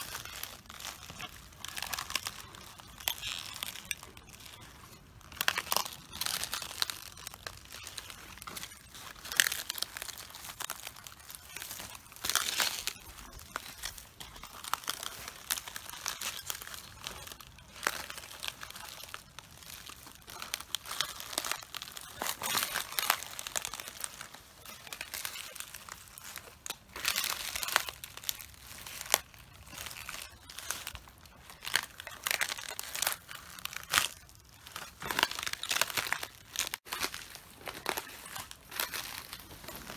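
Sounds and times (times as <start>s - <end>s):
cabbage leaves crunching underfoot: 0.0s - 39.9s.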